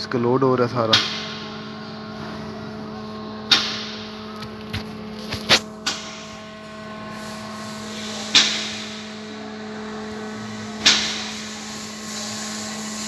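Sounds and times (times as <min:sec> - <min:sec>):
electrical hum in car: 0:00.0 - 0:13.0.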